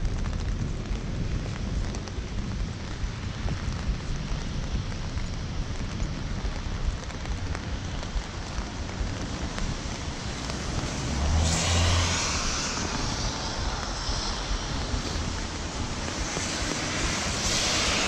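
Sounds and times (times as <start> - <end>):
steady rain: 0.0 - 18.0
vehicle tyres hissing on wet road: 0.0 - 18.0
wind buffeting microphone: 0.0 - 18.0.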